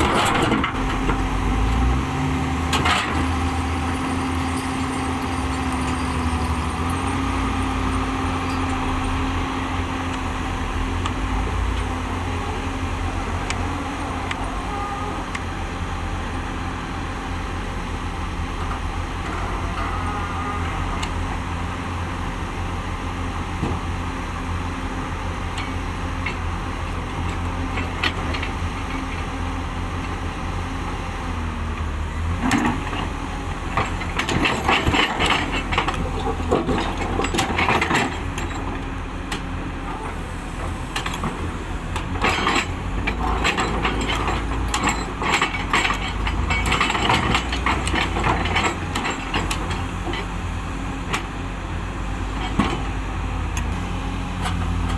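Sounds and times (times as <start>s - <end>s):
diesel earthmoving machine running: 0.0s - 54.9s.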